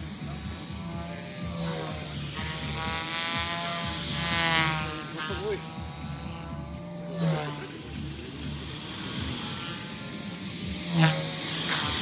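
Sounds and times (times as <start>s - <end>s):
model aircraft motor whine: 0.0s - 12.0s.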